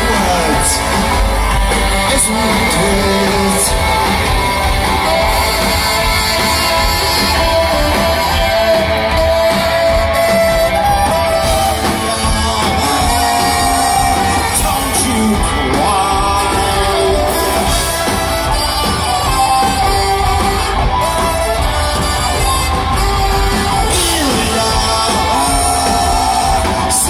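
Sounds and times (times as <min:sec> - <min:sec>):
drums: 0:00.0 - 0:27.0
electric guitar: 0:00.0 - 0:27.0
live rock band through pa: 0:00.0 - 0:27.0
saxophone: 0:00.0 - 0:27.0.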